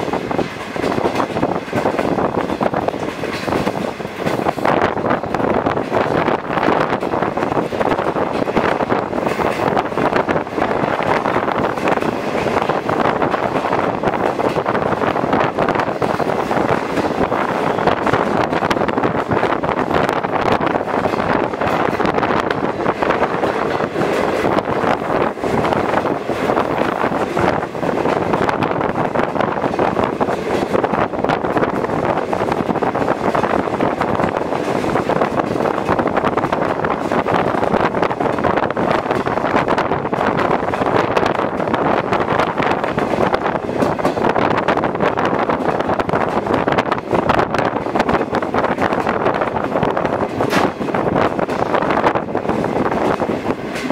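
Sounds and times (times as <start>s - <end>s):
train wheels rumbling on rail: 0.0s - 53.9s
wind buffeting microphone: 0.0s - 53.9s.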